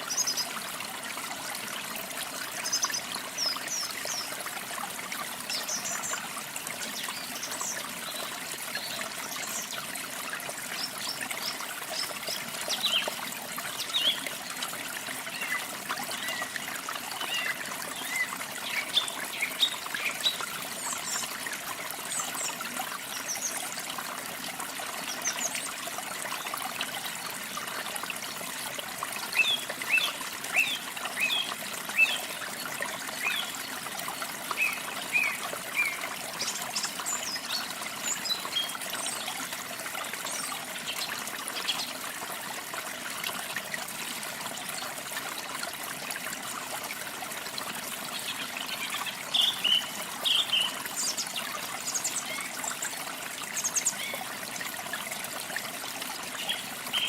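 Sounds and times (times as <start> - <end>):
trickle of running water: 0.0 - 57.0.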